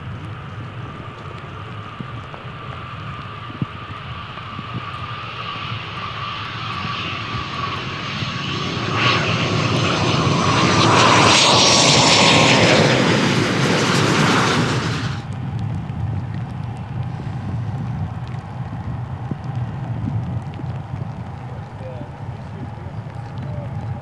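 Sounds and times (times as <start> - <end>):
jet whine and roar: 0.0 - 24.0.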